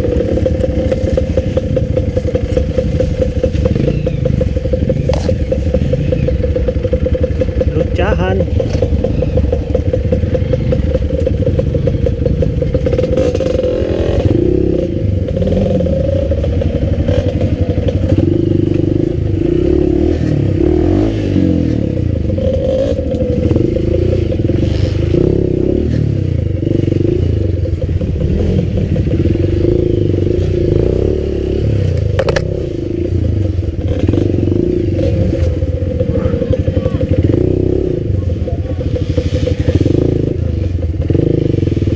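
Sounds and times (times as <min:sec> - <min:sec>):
dirt bike engine: 0:00.0 - 0:41.9.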